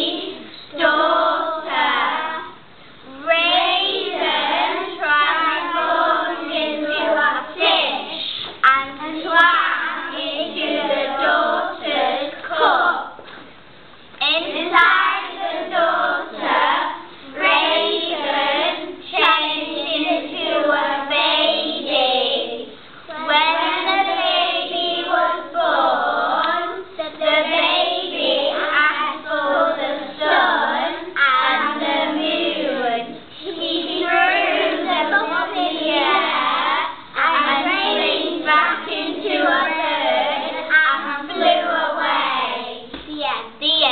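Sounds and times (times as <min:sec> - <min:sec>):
children singing in unison: 0:00.0 - 0:13.2, 0:14.3 - 0:43.0.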